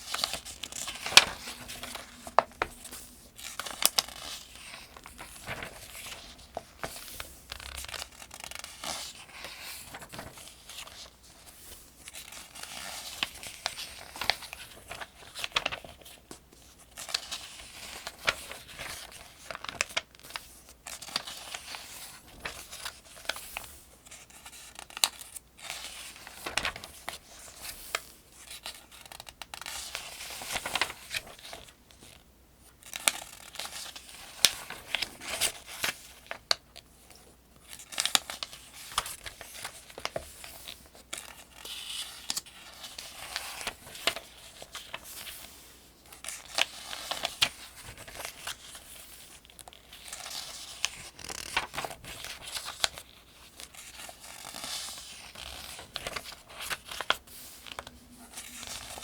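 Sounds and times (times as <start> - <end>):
paper pages turning: 0.0 - 32.2, 32.8 - 59.0.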